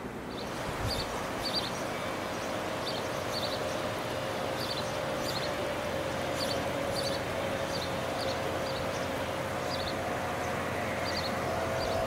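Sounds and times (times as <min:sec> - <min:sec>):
faint hum of railcar: 0:00.0 - 0:12.0
river rushing: 0:00.0 - 0:12.0.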